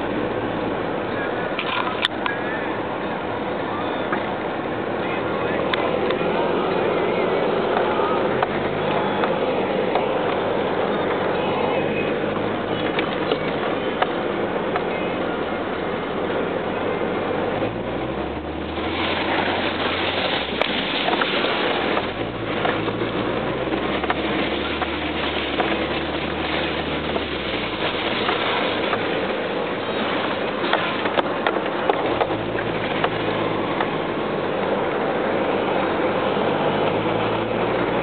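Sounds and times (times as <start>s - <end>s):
truck engine: 0.0s - 38.0s
tyres rumbling on dirt road: 0.0s - 38.0s
cab rattling: 3.9s - 38.0s.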